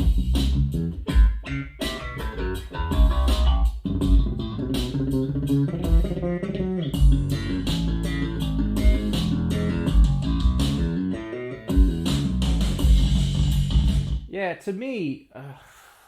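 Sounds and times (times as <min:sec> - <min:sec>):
music through speakers: 0:00.0 - 0:14.2
deep bass: 0:00.0 - 0:14.3
plucked guitar: 0:00.8 - 0:14.1.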